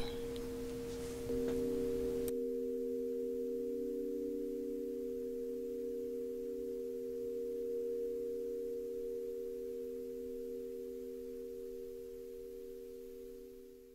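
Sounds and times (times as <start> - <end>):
tuning forks ringing: 0.0 - 13.9.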